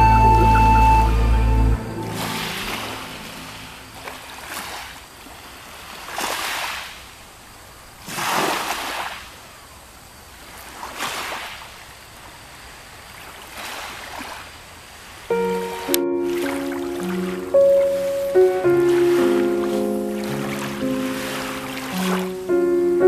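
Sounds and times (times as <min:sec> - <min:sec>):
lake waves washing onto shore: 0:01.8 - 0:09.7, 0:10.3 - 0:12.1, 0:12.8 - 0:22.6.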